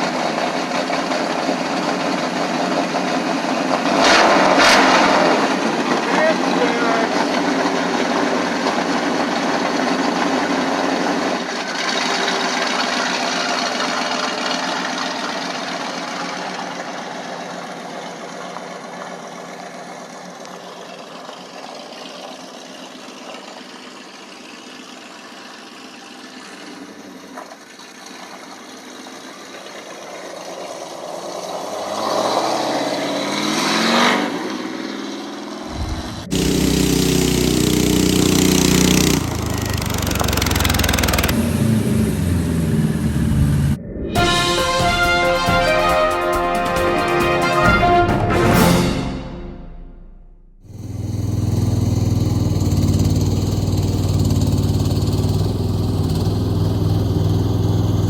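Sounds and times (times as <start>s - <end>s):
excavator engine running: 5.5s - 30.9s, 35.6s - 48.4s, 49.3s - 58.0s.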